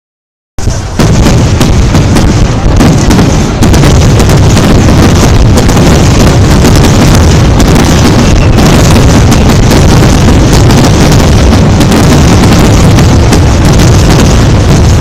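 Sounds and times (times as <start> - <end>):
fireworks bangs and crackles: 0.6 - 15.0.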